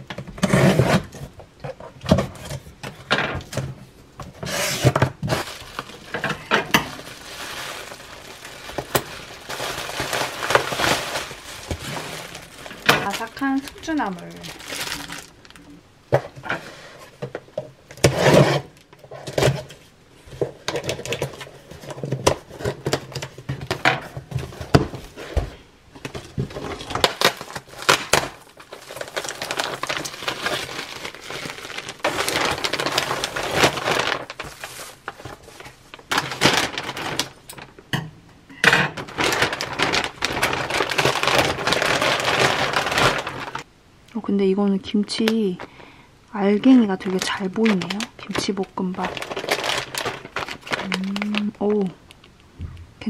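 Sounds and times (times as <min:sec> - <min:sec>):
plastic packaging crinkling: 0:00.6 - 0:25.3, 0:26.0 - 0:37.9, 0:38.9 - 0:43.7, 0:45.3 - 0:52.3.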